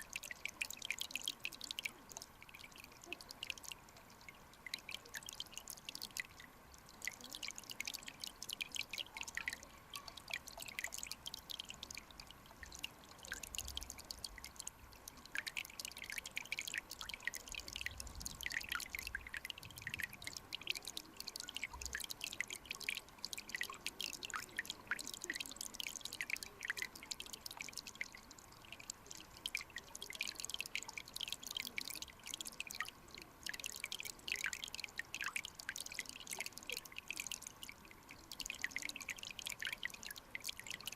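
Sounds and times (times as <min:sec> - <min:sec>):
stream water trickling and bubbling: 0:00.0 - 0:40.9.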